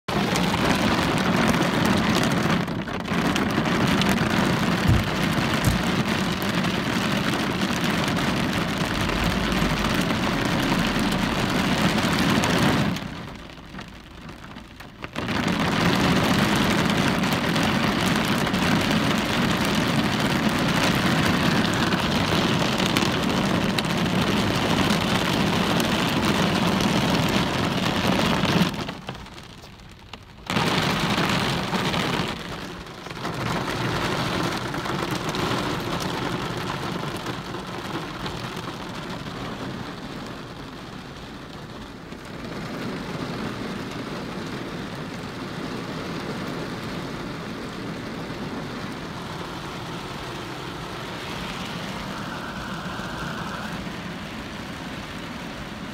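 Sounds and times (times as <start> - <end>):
rain pattering on window glass: 0.1 - 55.9.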